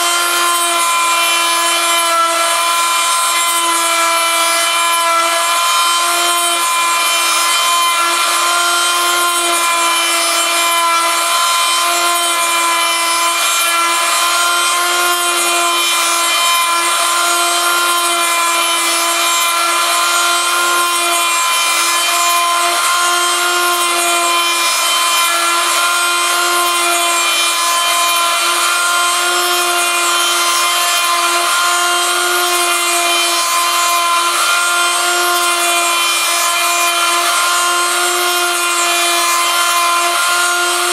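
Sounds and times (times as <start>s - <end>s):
bit rasping through wood: 0.0s - 40.9s
rotary tool whining: 0.0s - 40.9s.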